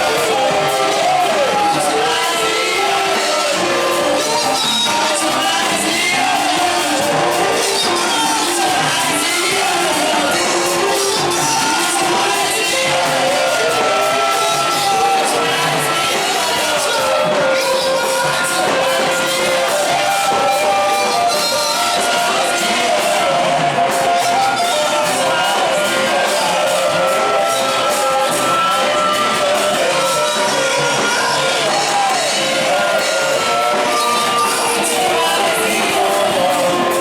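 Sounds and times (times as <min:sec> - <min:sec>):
congregation shouting and singing: 0:00.0 - 0:37.0
live worship music with singing: 0:00.0 - 0:37.0.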